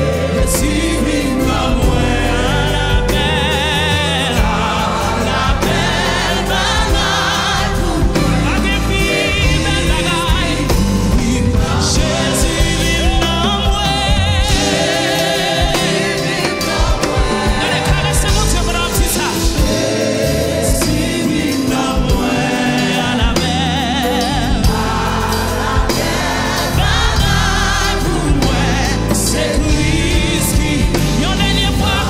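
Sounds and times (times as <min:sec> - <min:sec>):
band with electric bass: 0:00.0 - 0:32.0
mixed choir singing: 0:00.0 - 0:32.0.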